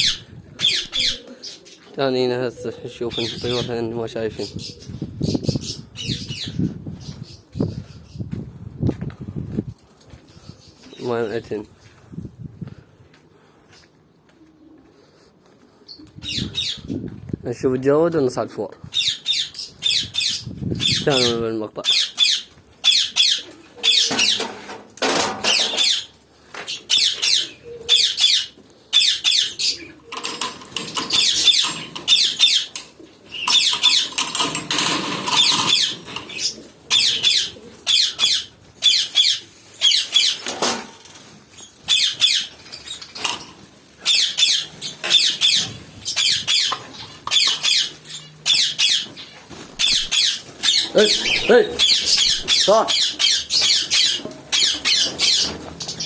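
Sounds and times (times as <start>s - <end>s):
birds squawking and chirping: 0.0s - 8.5s, 10.1s - 12.2s, 15.8s - 17.1s, 18.8s - 56.0s.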